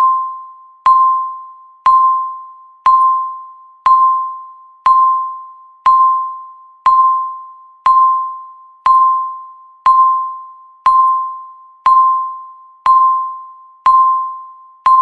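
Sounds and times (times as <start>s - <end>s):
timer beeping: 0.0s - 15.0s.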